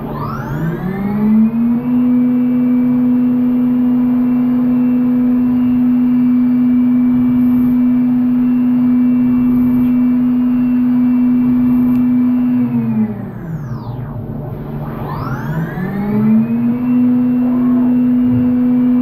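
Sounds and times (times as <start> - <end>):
machine spindle whine: 0.0 - 19.0.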